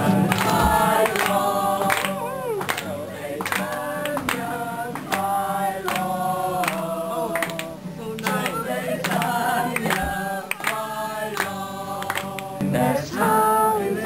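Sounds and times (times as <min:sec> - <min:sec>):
people clapping in time: 0:00.0 - 0:13.6
group singing unaccompanied: 0:00.0 - 0:14.0.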